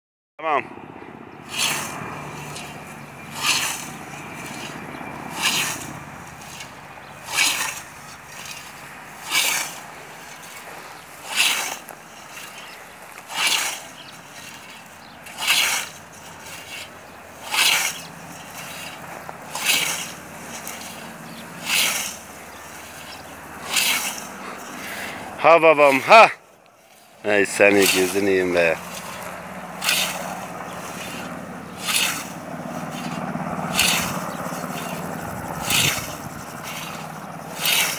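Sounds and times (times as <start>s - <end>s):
scythe swishing through grass: 1.4s - 37.9s.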